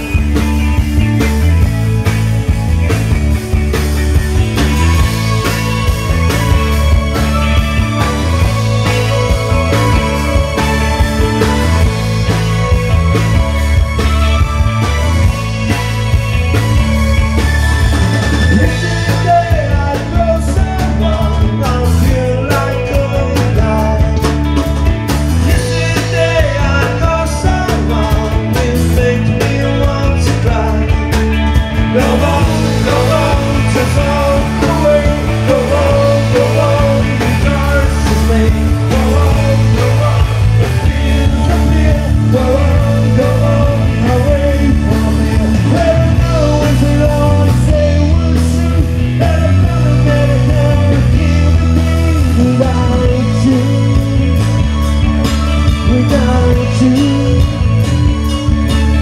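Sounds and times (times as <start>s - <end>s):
rock music with singing: 0.0s - 59.0s.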